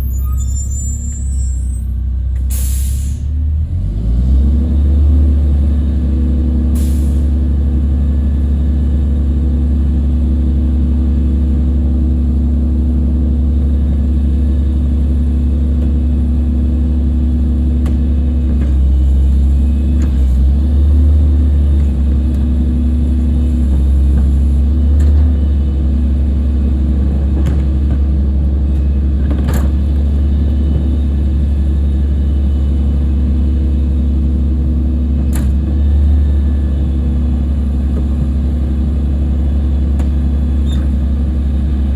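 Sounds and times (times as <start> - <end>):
garbage truck diesel engine running: 0.0 - 41.9.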